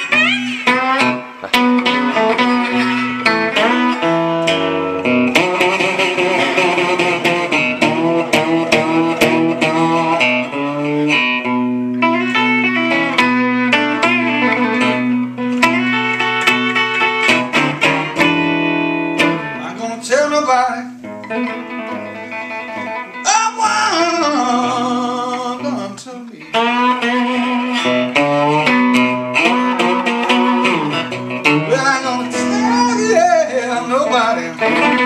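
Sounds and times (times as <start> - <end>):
electric guitar playing blues: 0.0 - 35.0.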